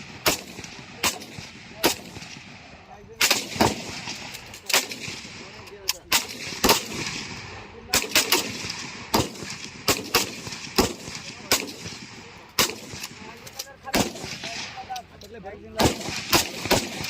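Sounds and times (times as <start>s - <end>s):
rifle shots with ringing echo: 0.0s - 17.0s.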